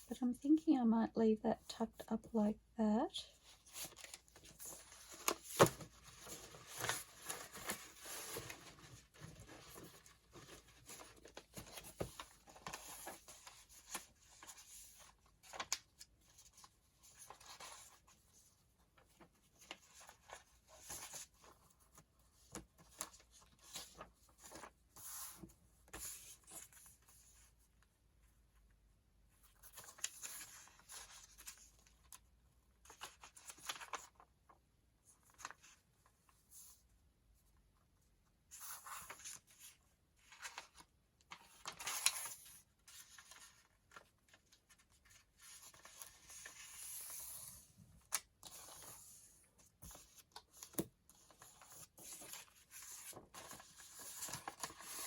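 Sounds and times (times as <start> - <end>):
paper rustling: 3.4 - 27.5, 29.5 - 34.3, 38.5 - 55.0.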